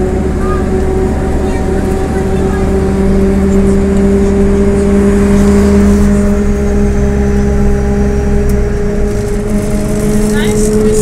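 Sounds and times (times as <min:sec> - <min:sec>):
bus drivetrain hum and whine: 0:00.0 - 0:11.0
road rumble: 0:00.0 - 0:11.0.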